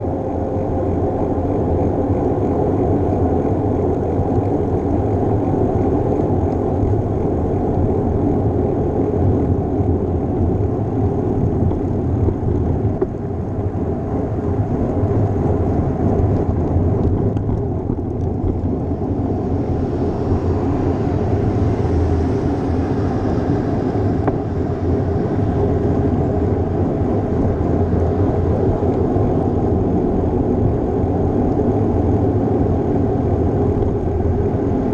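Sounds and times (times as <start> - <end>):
wind and road rushing noise: 0.0 - 34.9.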